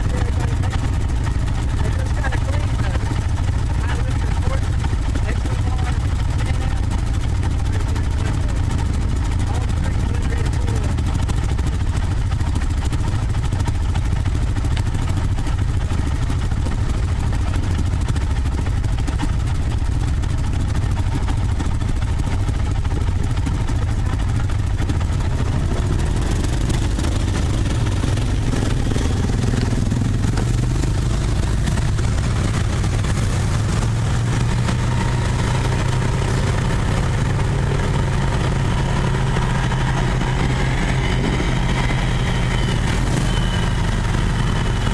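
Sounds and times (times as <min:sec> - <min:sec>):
atv engine idling and revving: 0:00.0 - 0:44.9
other atvs idling nearby: 0:00.0 - 0:44.9.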